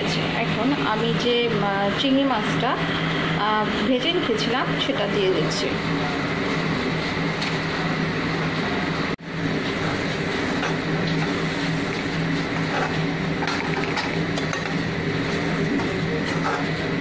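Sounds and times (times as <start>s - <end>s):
kitchen hum and hiss: 0.0s - 17.0s.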